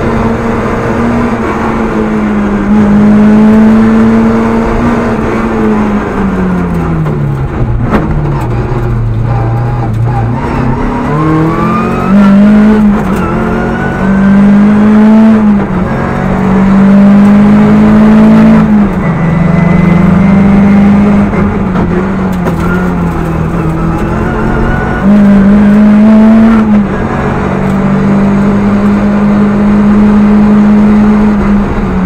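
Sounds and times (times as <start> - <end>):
car engine accelerating through gears: 0.0 - 32.0.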